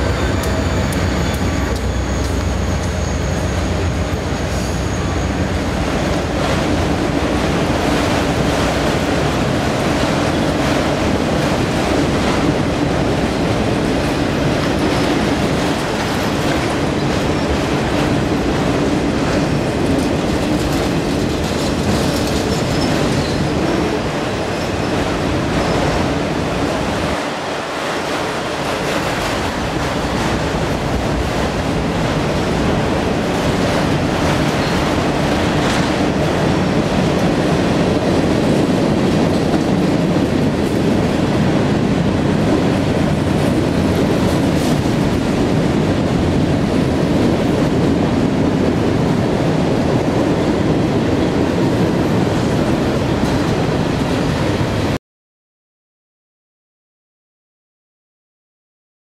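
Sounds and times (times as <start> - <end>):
freight train rumbling over bridge: 0.0 - 55.0.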